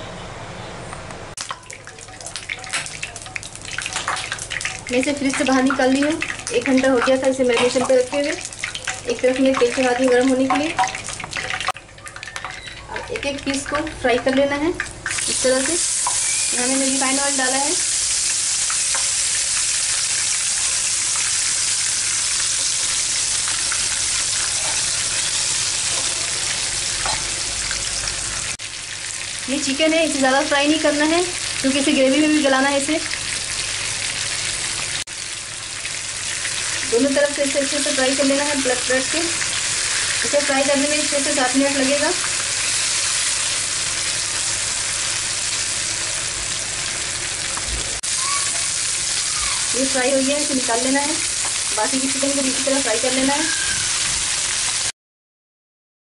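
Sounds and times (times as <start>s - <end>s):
chicken sizzling in frying pan: 1.4s - 54.9s.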